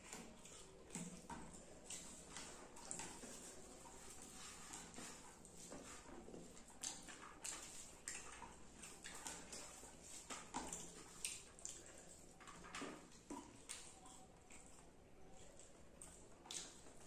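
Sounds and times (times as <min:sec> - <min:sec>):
wet chewing and lip-smacking: 0:00.0 - 0:05.8, 0:06.4 - 0:17.0.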